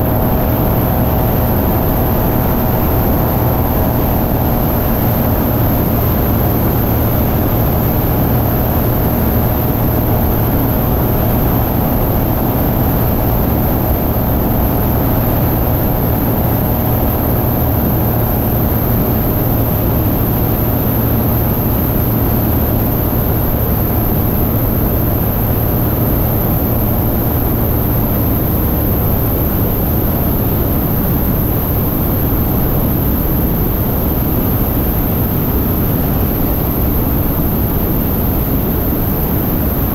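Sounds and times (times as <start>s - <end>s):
aircraft engine and propeller drone: 0.0s - 39.9s
wind rush on camera: 0.0s - 39.9s.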